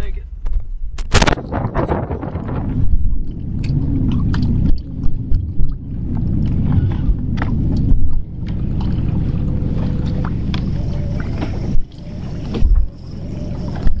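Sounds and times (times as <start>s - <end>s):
low steady rumble: 0.0s - 14.0s
waves lapping against boat hull: 0.4s - 14.0s.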